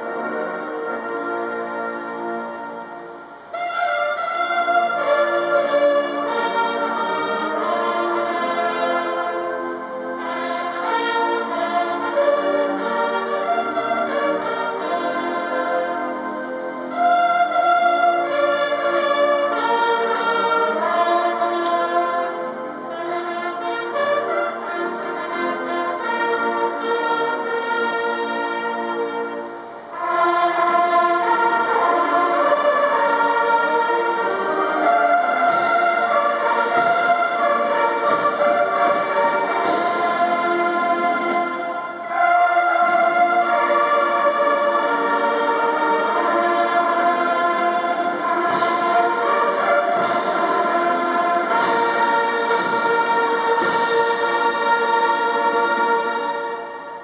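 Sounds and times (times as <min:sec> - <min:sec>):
military band brass chords: 0:00.0 - 0:57.0.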